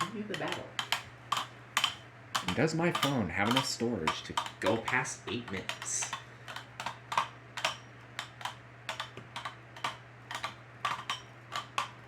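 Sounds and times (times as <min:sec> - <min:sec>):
spinning tops clacking together: 0:00.0 - 0:12.0
steady hum: 0:00.0 - 0:12.0.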